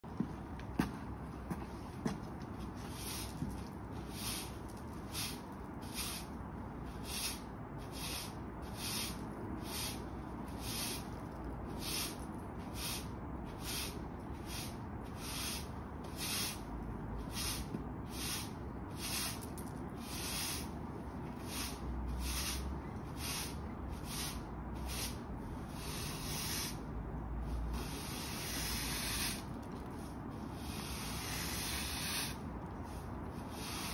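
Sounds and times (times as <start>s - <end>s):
broom sweeping brick paving: 1.6s - 33.9s.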